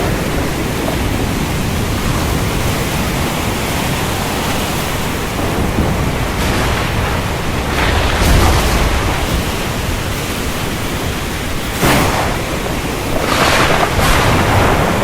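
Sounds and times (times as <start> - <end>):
rain and wind hiss: 0.0 - 15.0
thunder rumble: 0.0 - 15.0
wind gusts: 0.0 - 15.0.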